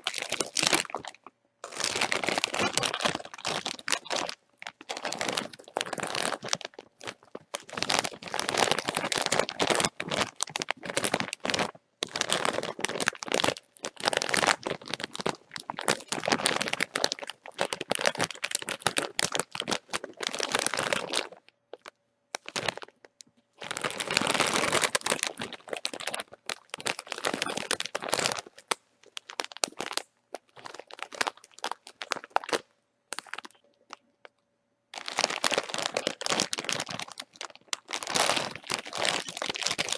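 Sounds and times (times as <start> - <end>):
plastic chip bag crinkling: 0.0 - 34.0, 35.0 - 39.9.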